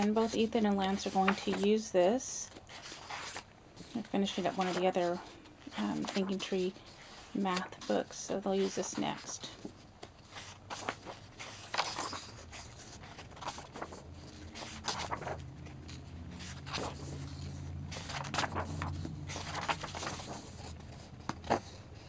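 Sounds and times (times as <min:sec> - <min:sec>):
paper pages turning: 0:00.0 - 0:22.0.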